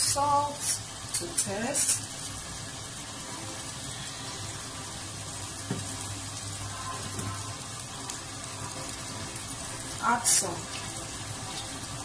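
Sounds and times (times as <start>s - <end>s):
meat sizzling in a pot: 0.0s - 12.0s.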